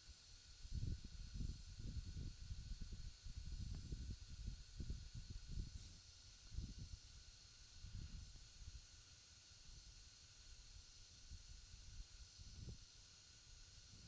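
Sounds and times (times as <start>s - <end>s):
high fan whine: 0.0s - 14.0s.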